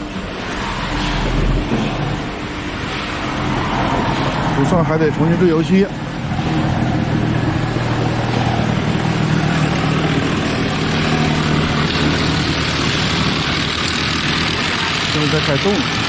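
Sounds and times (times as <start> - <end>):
even rushing noise: 0.0 - 16.0
vehicle engine hum: 0.0 - 16.0.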